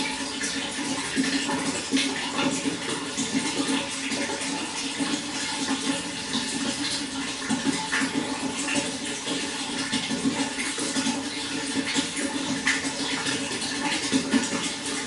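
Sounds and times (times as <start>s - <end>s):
running water gurgling: 0.0s - 15.0s.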